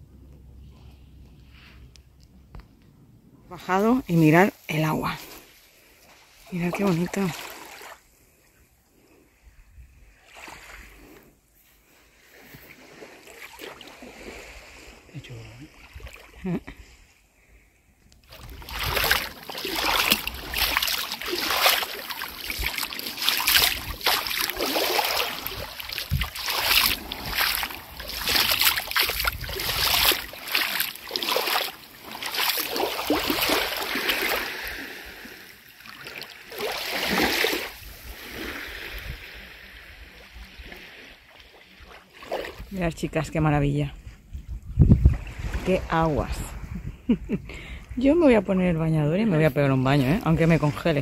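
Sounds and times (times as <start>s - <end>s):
waves lapping on beach: 3.5s - 44.2s, 45.0s - 51.0s.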